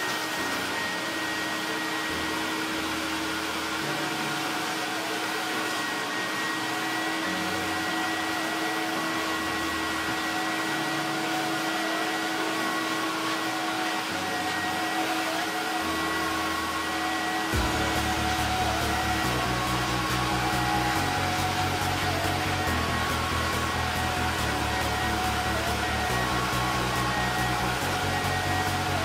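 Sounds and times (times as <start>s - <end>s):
carpet extractor running: 0.0s - 29.0s.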